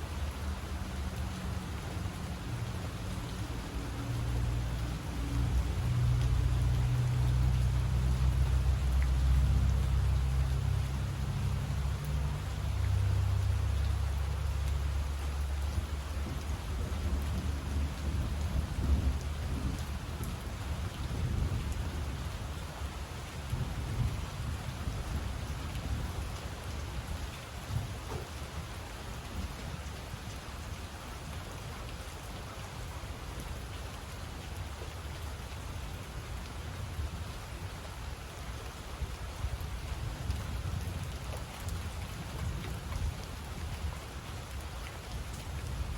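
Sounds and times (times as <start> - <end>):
steady rain falling: 0.0 - 45.9
low rumble of thunder: 0.1 - 30.2, 39.0 - 45.9.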